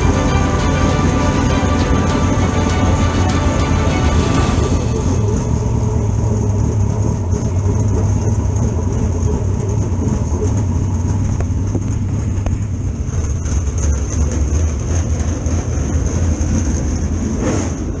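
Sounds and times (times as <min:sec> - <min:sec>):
race car engine rumbling: 0:00.0 - 0:18.0.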